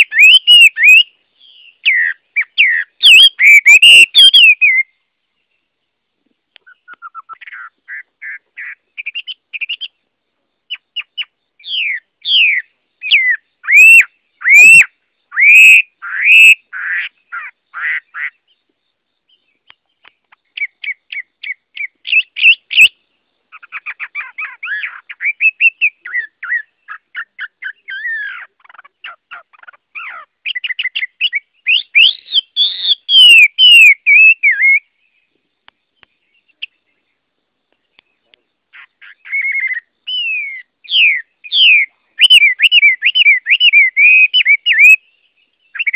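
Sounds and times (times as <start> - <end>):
bird singing with whistles: 0.0 - 5.0, 6.6 - 10.0, 10.7 - 18.6, 19.3 - 35.2, 38.8 - 45.9.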